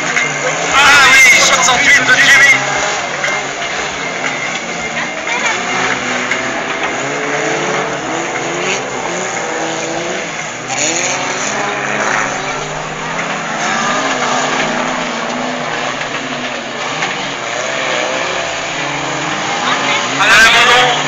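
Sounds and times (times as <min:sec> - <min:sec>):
racing car engines revving: 0:00.0 - 0:21.0
dense wash of noise: 0:00.4 - 0:21.0.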